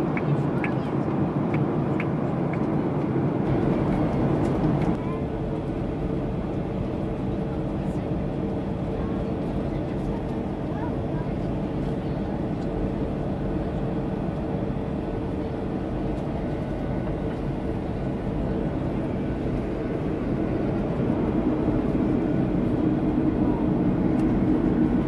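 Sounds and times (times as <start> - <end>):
aircraft cabin engine roar: 0.0 - 25.0.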